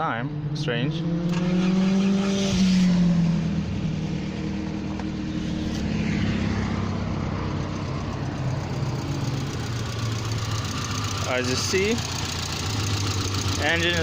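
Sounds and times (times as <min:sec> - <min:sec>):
car engine running: 0:00.4 - 0:14.0.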